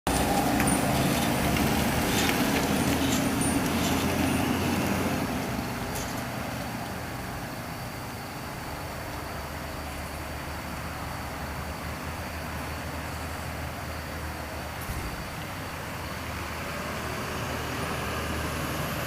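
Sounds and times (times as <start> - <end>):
ambulance engine running: 0.0 - 19.0
road noise: 0.0 - 19.0.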